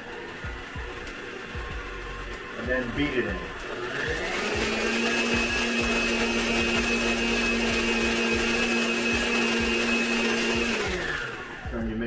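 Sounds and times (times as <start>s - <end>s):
stand mixer whining: 0.0s - 12.0s.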